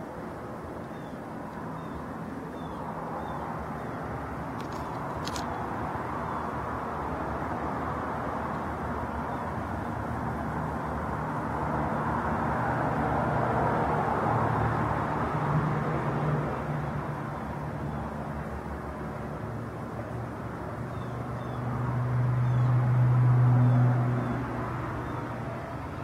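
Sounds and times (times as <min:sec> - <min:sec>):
steady outdoor rush: 0:00.0 - 0:26.0.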